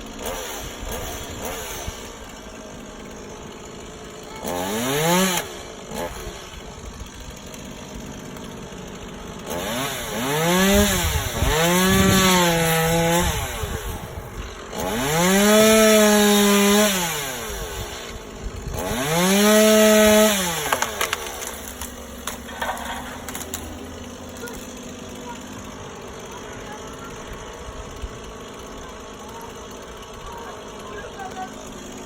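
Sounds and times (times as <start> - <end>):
chainsaw revving and idling: 0.0 - 32.0.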